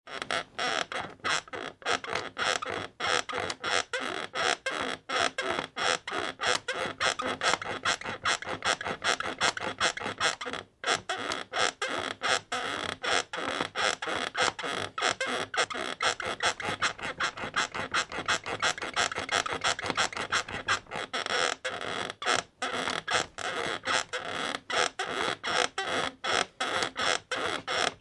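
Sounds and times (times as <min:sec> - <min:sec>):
bed creaking rhythmically: 0:05.3 - 0:28.0.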